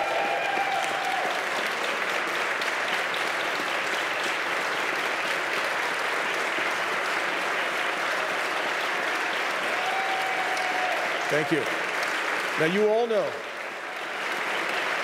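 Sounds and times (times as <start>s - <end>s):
large crowd applauding: 0.0s - 15.0s.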